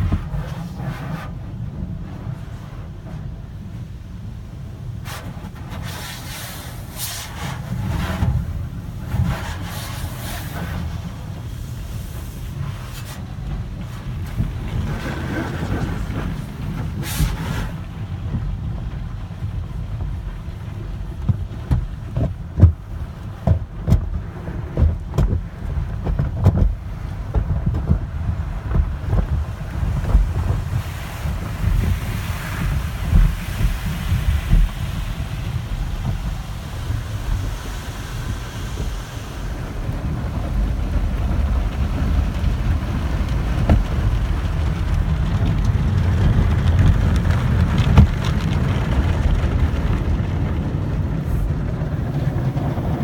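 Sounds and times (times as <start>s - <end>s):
car wash equipment rumbling: 0.0s - 53.0s.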